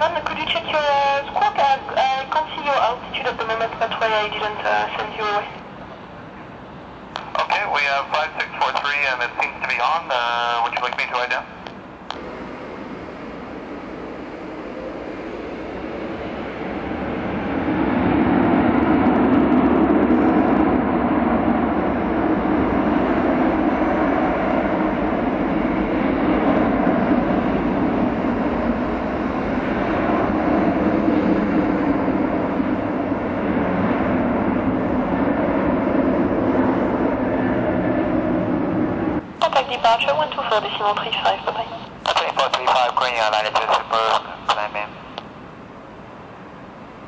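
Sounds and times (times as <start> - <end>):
jet engines at high power: 0.0 - 47.0.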